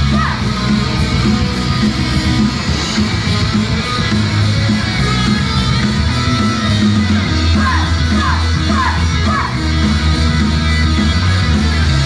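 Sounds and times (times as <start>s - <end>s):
distorted guitar: 0.0s - 12.0s
heavy low beat: 0.0s - 12.0s
live rock music: 0.0s - 12.0s.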